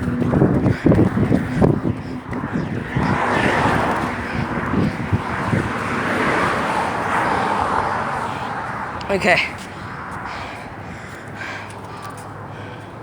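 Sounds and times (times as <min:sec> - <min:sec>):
wind on microphone: 0:00.0 - 0:12.4
vehicles passing: 0:00.0 - 0:13.0.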